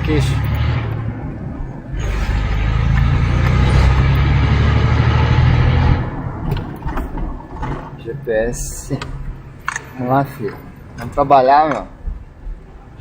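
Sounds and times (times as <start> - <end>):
car engine and exhaust drone: 0.0 - 11.3.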